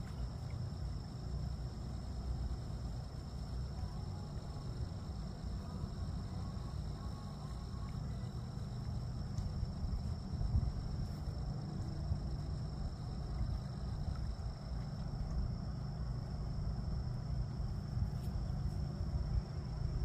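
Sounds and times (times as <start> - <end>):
high-pitched insect chorus: 0.0 - 20.0
low rumble: 0.0 - 20.0.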